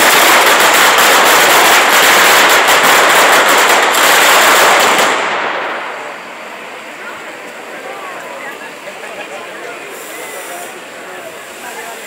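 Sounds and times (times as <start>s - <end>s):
firecrackers crackling: 0.0s - 12.0s.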